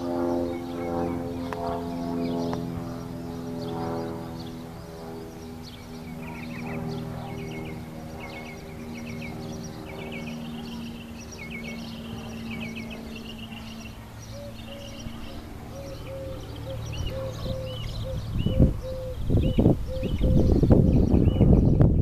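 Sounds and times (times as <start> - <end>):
songbirds chirping: 0.0 - 22.0
steady low hum: 0.0 - 22.0.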